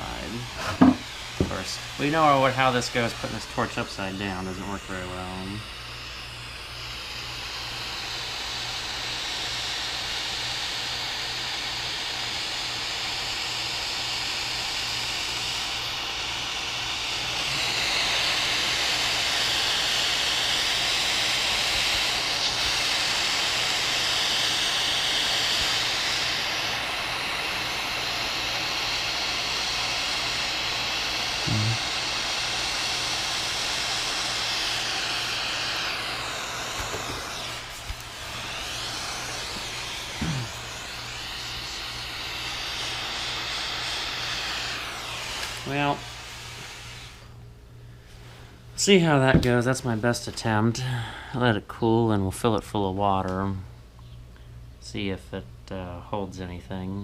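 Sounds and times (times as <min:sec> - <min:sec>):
propane torch hissing: 0:00.0 - 0:52.0.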